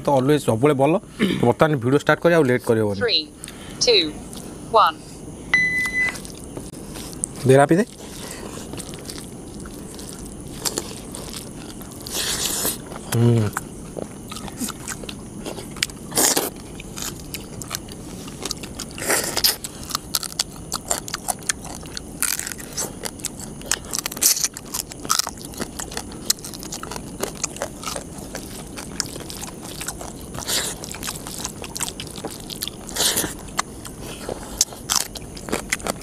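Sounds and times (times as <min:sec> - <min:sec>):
chewing: 0:06.1 - 0:36.0
crab shells crunching: 0:06.2 - 0:13.1, 0:14.0 - 0:36.0.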